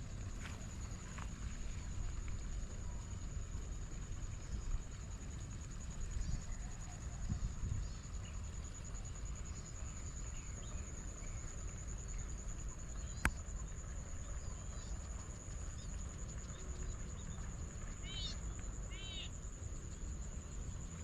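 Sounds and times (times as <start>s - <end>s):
cricket trilling: 0.0s - 21.0s.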